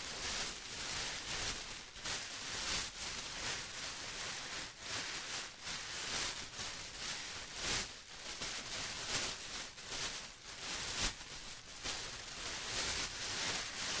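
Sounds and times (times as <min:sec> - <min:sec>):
plastic rustling and crinkling: 0:00.0 - 0:14.0.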